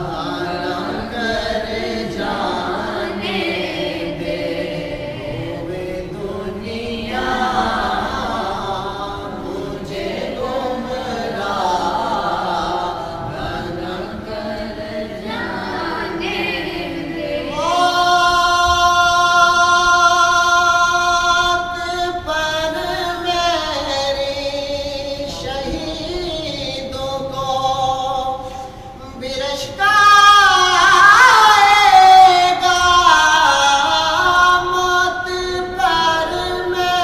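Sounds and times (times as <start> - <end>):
men singing unaccompanied: 0.0 - 37.0.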